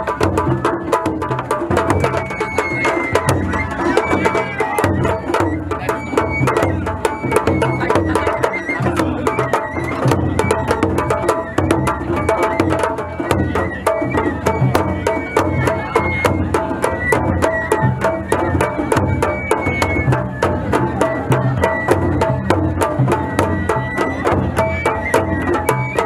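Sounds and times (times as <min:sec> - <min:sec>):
taiko drum beaten fast: 0:00.0 - 0:26.0.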